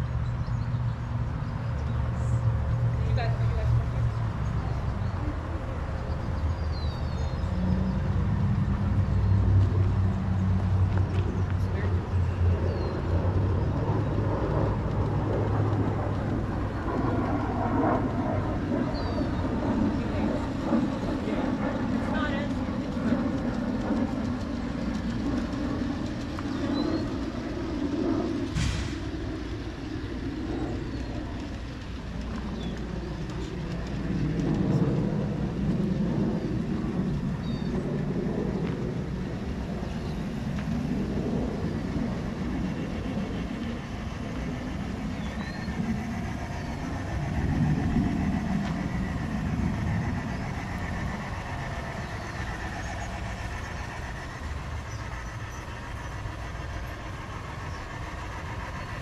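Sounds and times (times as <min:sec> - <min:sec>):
model trains rumbling on track: 0:00.0 - 0:59.0.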